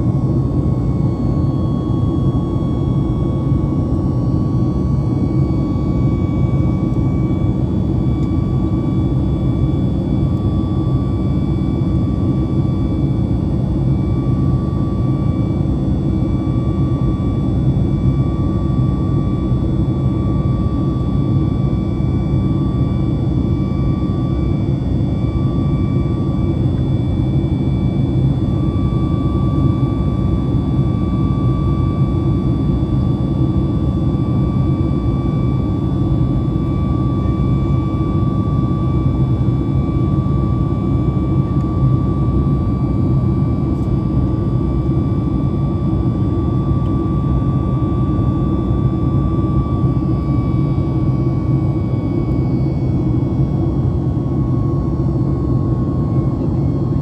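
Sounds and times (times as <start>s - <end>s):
jet engine cabin noise: 0.0s - 57.0s.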